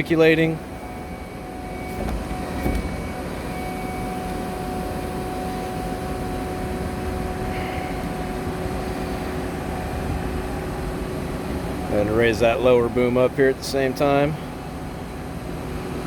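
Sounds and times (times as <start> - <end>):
diesel engine rumble: 0.0 - 16.0
hydraulic whine: 0.0 - 16.0.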